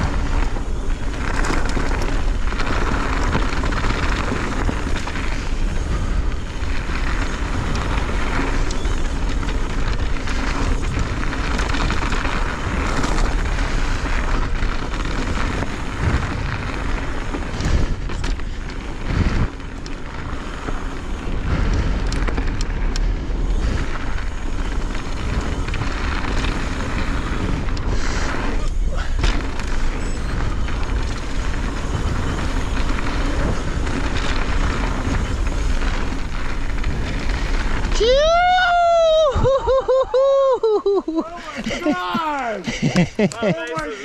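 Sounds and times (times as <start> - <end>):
wind rush over microphone: 0.0 - 40.6
bike rattling over ground: 0.0 - 44.0.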